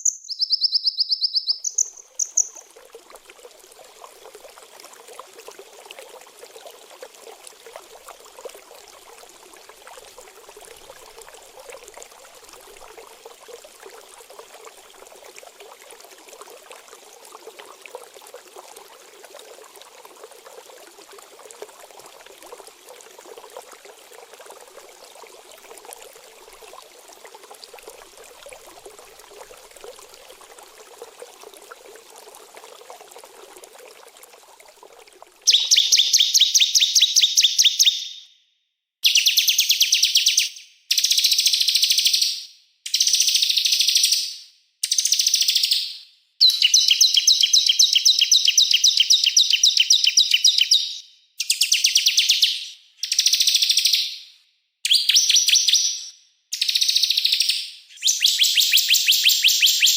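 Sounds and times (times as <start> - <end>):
trickling stream: 0.0 - 38.2, 39.0 - 54.3, 54.9 - 59.9.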